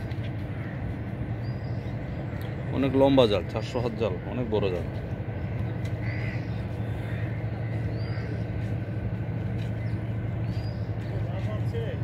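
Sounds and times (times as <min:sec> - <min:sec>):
bird calls: 0:00.0 - 0:12.0
low engine hum: 0:00.0 - 0:12.0.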